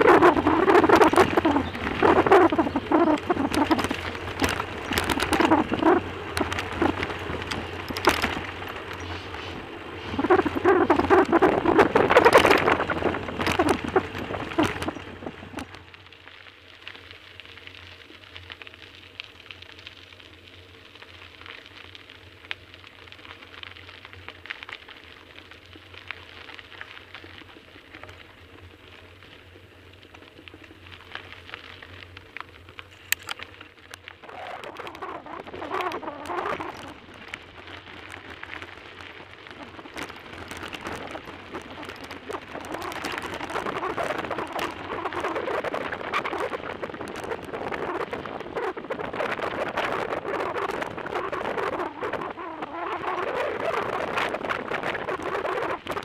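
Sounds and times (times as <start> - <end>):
bicycle tyres crunching on gravel: 0.0 - 56.0
bike rattling: 0.0 - 56.0.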